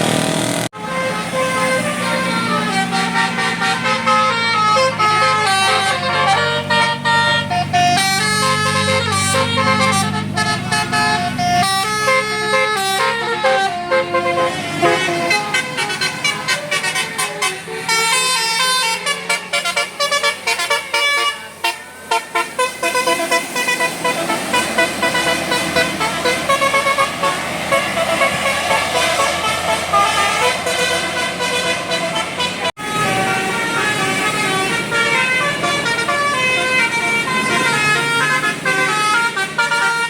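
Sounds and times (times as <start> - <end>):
low engine hum: 0.0 - 40.0
bus musical horn playing a tune: 0.7 - 40.0.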